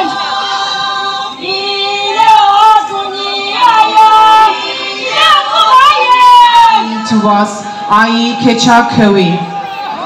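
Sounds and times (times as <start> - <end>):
women singing unaccompanied: 0.0 - 9.4.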